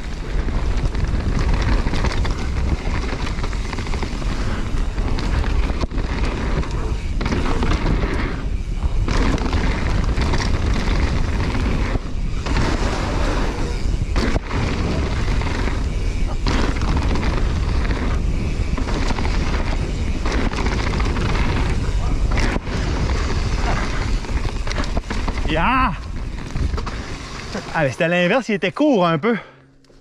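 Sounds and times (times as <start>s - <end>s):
wind rumble on microphone: 0.0s - 27.6s
bike tyres on dirt: 0.0s - 29.2s.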